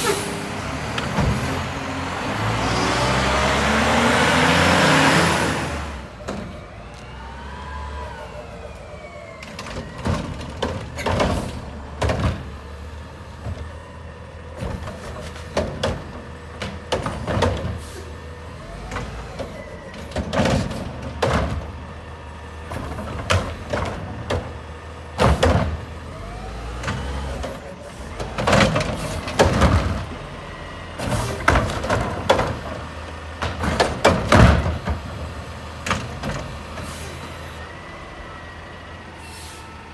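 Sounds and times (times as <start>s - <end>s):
truck pulling away: 0.0s - 39.9s.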